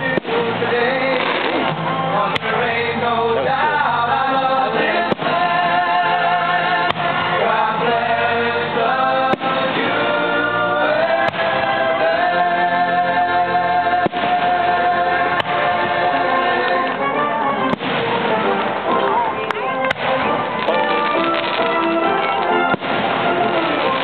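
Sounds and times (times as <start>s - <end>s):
choir singing sustained chords: 0.0s - 20.6s.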